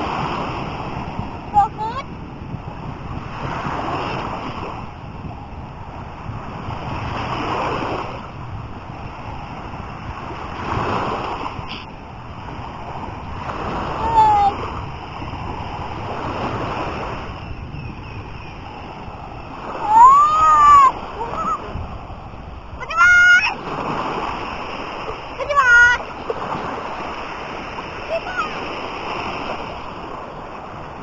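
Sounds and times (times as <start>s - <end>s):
sea waves washing onto beach: 0.0s - 31.0s.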